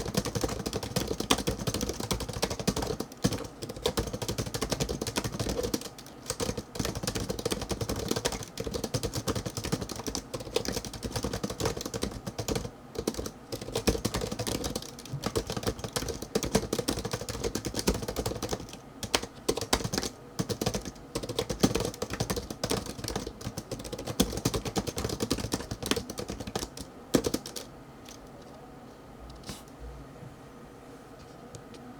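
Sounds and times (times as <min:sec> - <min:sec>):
fast typing on keyboard: 0:00.0 - 0:28.2.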